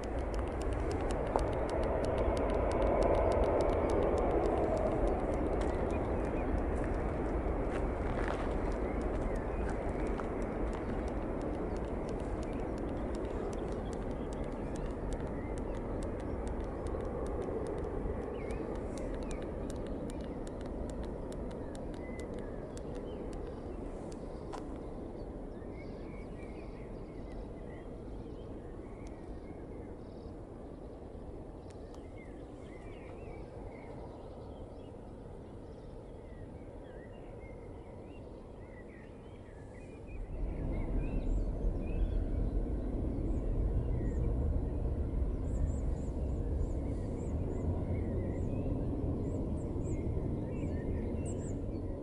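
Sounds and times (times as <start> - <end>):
birds chirping: 0.0 - 52.0
distant jet engine rumble: 0.0 - 52.0.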